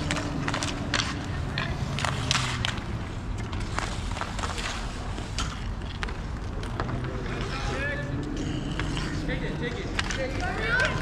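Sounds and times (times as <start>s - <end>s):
hockey sticks clacking: 0.0s - 11.0s
low rumble of play on concrete: 0.0s - 11.0s.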